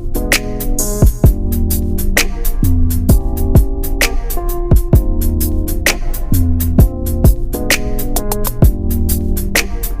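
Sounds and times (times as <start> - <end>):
deep bass: 0.0 - 10.0.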